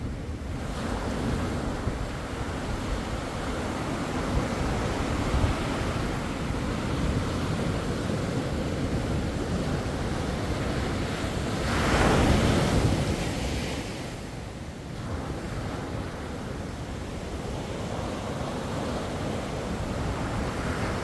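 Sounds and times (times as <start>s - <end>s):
wind buffeting microphone: 0.0s - 21.0s
sea waves breaking on beach: 0.5s - 21.0s.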